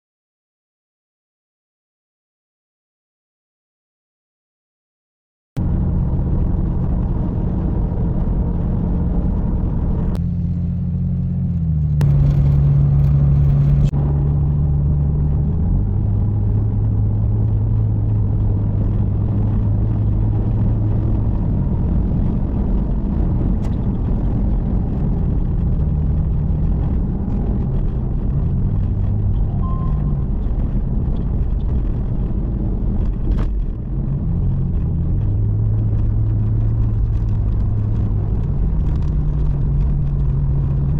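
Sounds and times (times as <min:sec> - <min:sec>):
car engine and road noise: 0:05.6 - 0:40.9.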